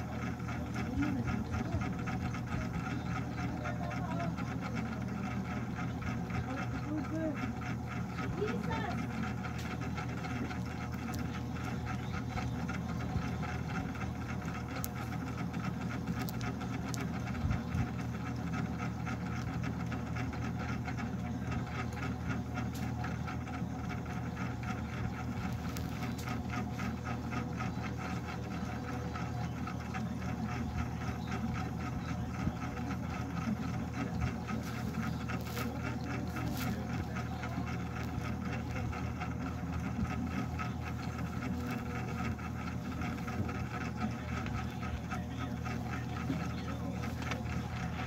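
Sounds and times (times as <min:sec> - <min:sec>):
rattling mechanical hum: 0:00.0 - 0:48.0.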